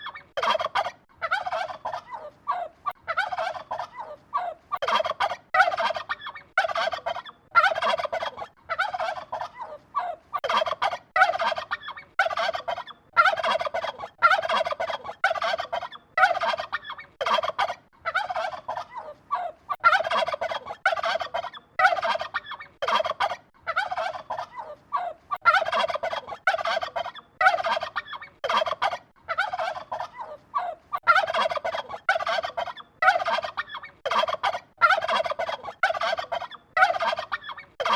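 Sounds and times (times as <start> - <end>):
turkeys gobbling: 0.0 - 37.9.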